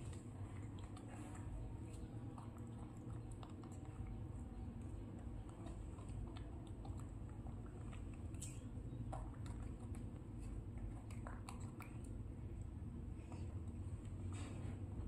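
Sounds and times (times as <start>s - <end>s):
monkey chewing cucumber: 0.0s - 14.9s
steady low hum: 0.0s - 15.0s.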